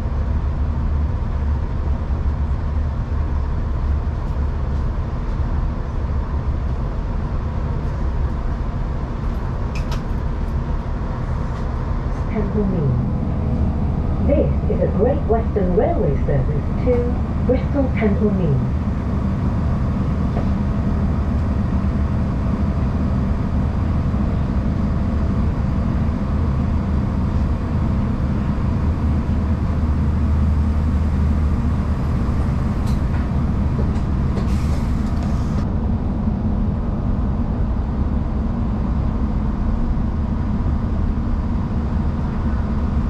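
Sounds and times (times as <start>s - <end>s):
train engine drone: 0.0s - 43.0s
wheels rumbling on rails: 0.0s - 43.0s.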